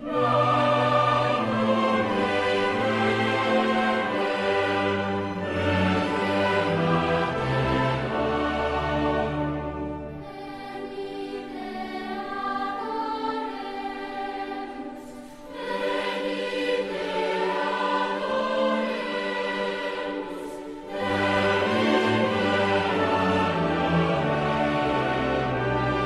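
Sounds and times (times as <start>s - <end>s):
choir singing long held notes: 0.0s - 26.0s.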